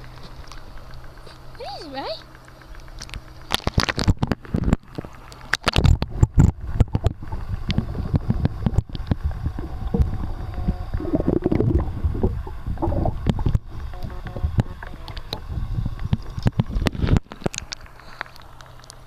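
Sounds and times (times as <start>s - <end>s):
muffled underwater rumble: 0.0s - 19.0s
water gurgling and bubbling: 2.9s - 19.0s.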